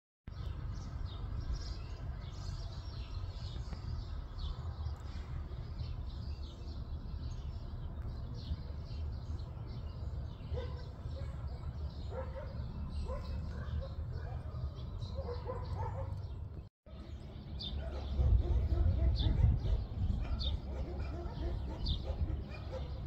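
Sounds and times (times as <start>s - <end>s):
small birds chirping: 0.3s - 23.0s.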